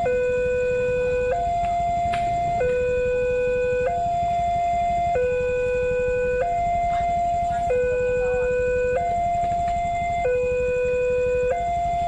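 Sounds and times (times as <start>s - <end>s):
two-tone crossing alarm: 0.0s - 12.0s.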